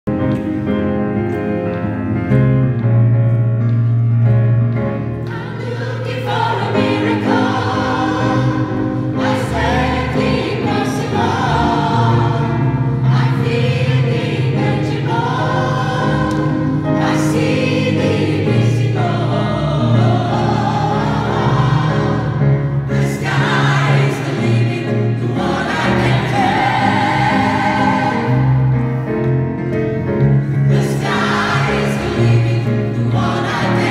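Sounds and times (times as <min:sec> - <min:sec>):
low musical accompaniment: 0:00.1 - 0:33.9
gospel choir singing: 0:04.9 - 0:33.9.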